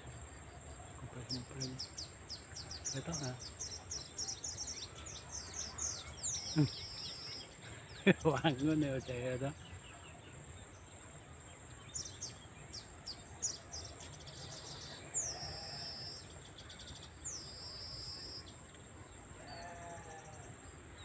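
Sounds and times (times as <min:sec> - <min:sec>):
insects droning: 0:00.0 - 0:21.0
songbird chirping: 0:00.0 - 0:21.0.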